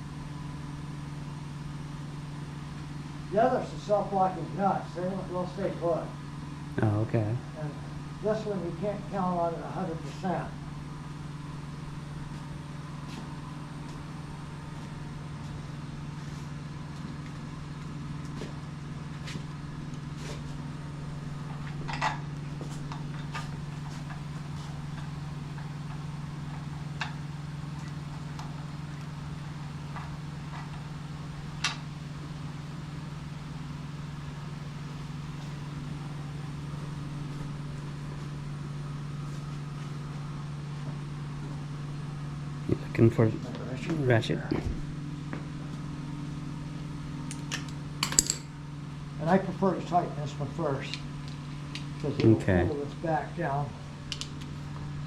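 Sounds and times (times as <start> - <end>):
machine humming: 0.0 - 47.3.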